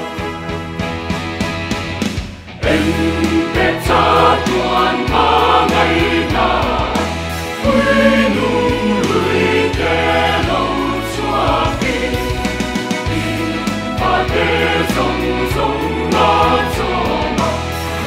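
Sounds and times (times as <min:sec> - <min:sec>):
choir singing gospel in harmony: 0:02.6 - 0:18.0
low bass accompaniment: 0:02.6 - 0:18.0.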